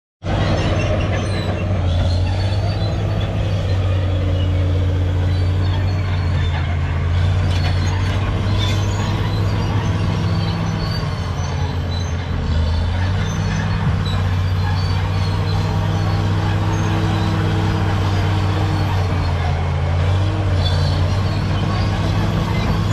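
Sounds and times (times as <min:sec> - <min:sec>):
bulldozer diesel engine running: 0:00.2 - 0:22.9.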